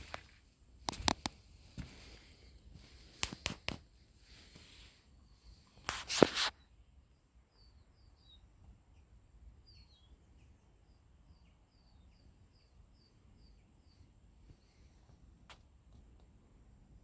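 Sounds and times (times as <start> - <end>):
songbird chirping: 0.0 - 5.9, 6.5 - 15.2.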